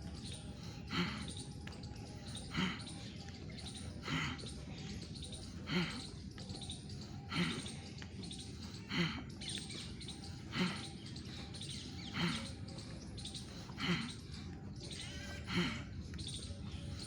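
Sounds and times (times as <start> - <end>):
bird calling: 0.0 - 17.0.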